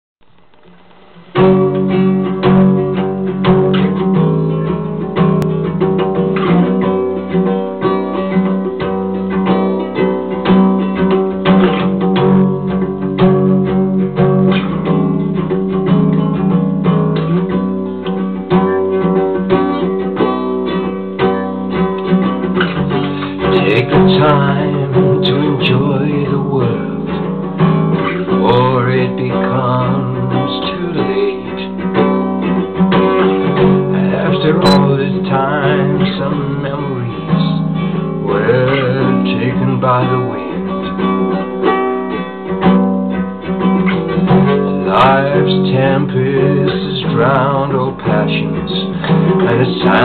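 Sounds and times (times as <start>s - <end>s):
acoustic guitar music: 0.2s - 50.0s.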